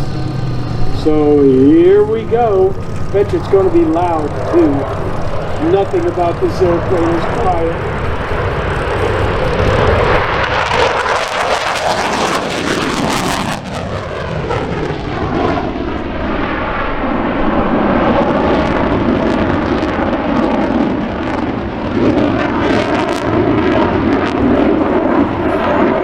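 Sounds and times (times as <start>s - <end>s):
fighter jet engines roaring past: 0.0s - 26.0s.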